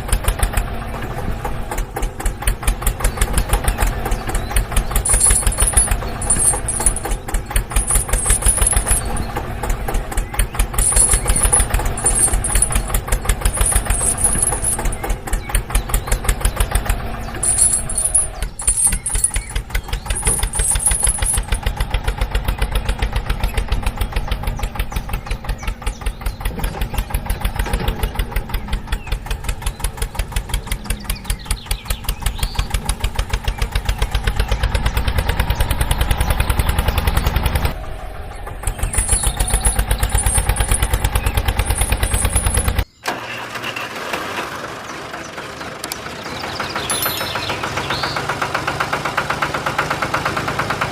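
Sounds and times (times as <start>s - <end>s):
engine chugging: 0.0s - 42.8s, 45.0s - 50.9s.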